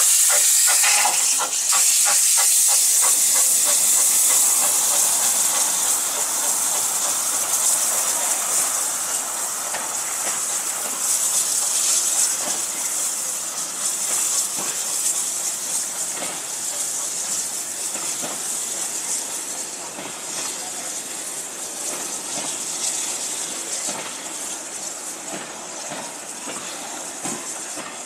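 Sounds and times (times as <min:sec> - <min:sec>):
steam locomotive hissing: 0:00.0 - 0:28.0
wheels clicking on rails: 0:00.0 - 0:28.0.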